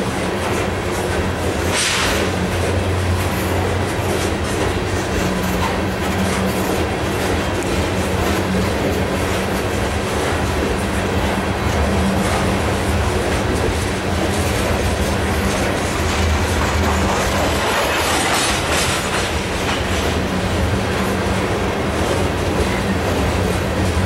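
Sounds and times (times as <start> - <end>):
freight train rumbling past: 0.0 - 24.0
wheels clacking over rail: 0.0 - 24.0.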